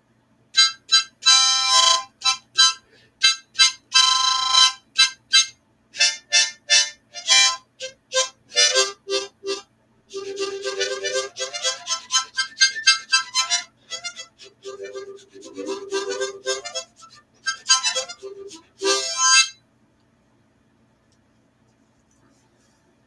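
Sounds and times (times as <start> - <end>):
harmonica notes and chords: 0.6 - 19.6.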